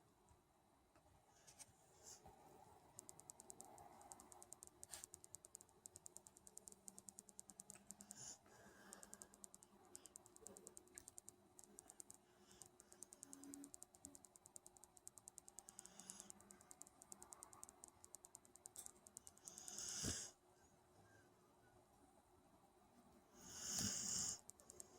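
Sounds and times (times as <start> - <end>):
soft clicking snoring: 1.5 - 20.4, 23.4 - 24.9.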